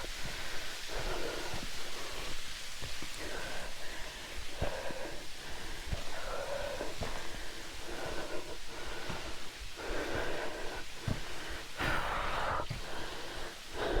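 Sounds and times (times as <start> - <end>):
person breathing heavily: 0.0 - 14.0.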